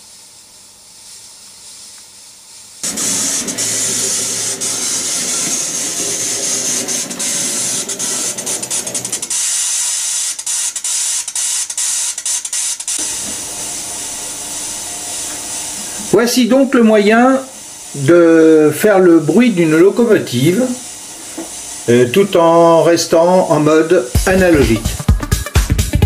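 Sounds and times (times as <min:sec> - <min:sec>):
steam locomotive hissing: 0:02.8 - 0:26.0.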